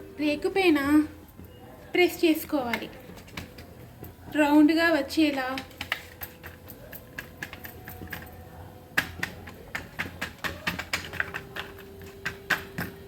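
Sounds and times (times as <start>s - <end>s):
fingers patting dough: 1.2s - 13.0s.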